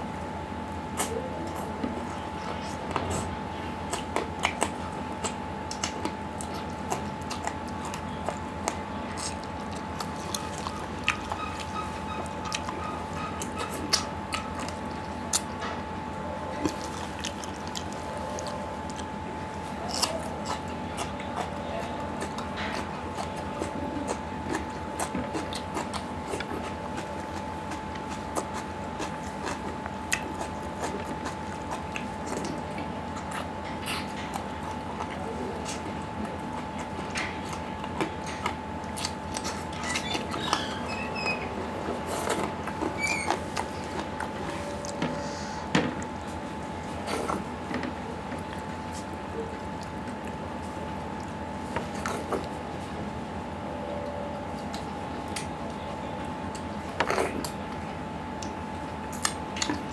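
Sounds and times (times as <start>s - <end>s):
faint hum: 0.0s - 59.9s
chewing and wet mouth smacks: 2.4s - 15.6s, 16.6s - 45.0s, 45.9s - 52.7s, 54.5s - 59.9s.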